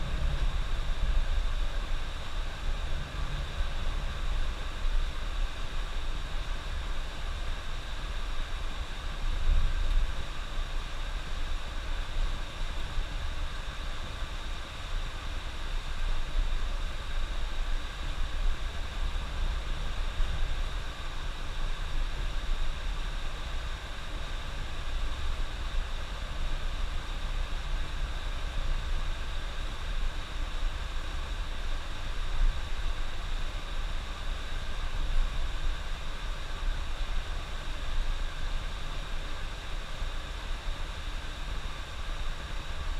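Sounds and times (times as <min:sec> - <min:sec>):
constant hiss: 0:00.0 - 0:42.9.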